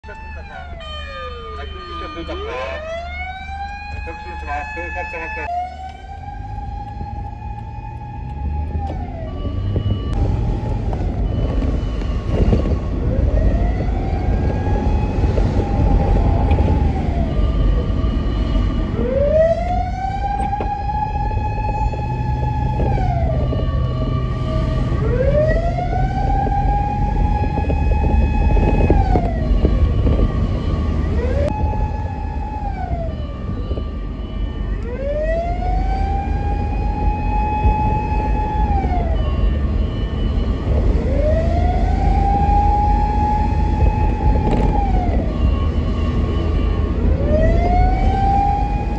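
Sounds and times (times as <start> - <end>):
car engine and road noise: 0.0 - 48.9
fire vehicle siren wailing: 0.0 - 48.9.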